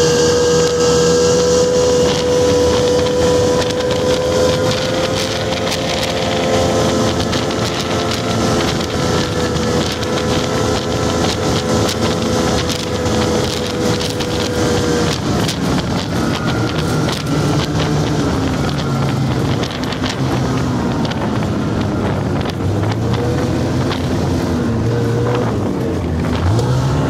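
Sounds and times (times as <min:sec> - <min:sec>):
snowmobile engine running: 0:00.0 - 0:27.0
wind buffeting microphone: 0:00.0 - 0:27.0
rapid clicking rattles: 0:02.0 - 0:24.4.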